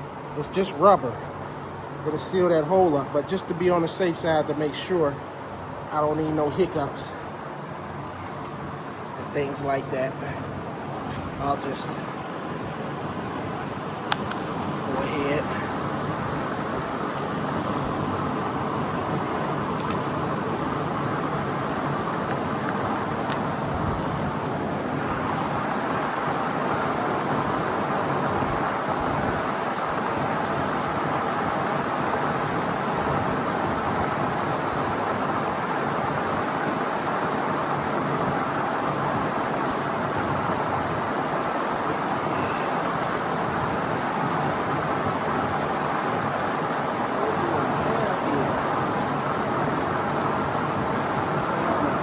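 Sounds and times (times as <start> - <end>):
electric fan running: 0.0 - 52.0.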